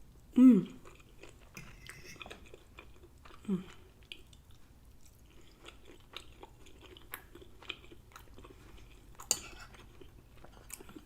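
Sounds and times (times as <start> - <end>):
person chewing food: 0.6 - 11.0.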